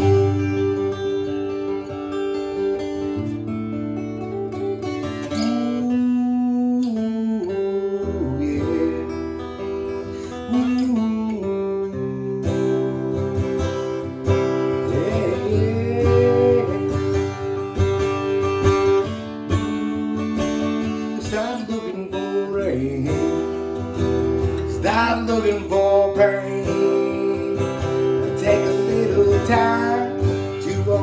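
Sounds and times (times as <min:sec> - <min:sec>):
acoustic guitar strummed and picked: 0:00.0 - 0:31.0.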